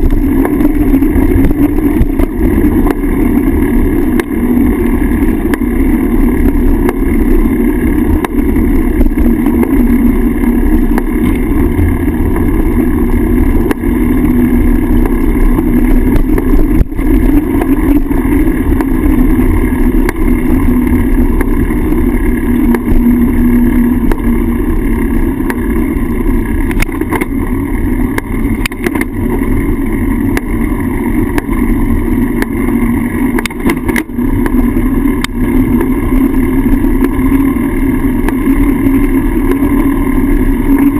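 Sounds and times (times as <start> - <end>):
road noise: 0.0 - 40.9.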